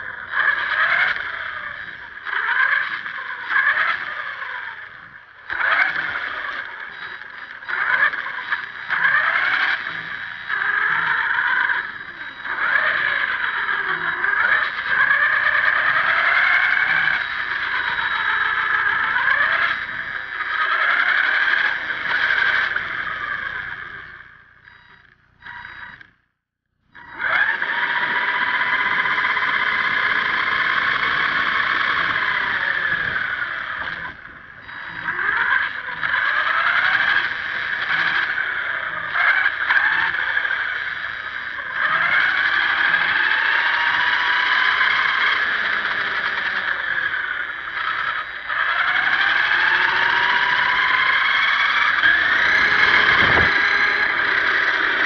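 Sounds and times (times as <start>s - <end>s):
toy truck motor whining: 0.0s - 26.2s, 26.8s - 55.0s.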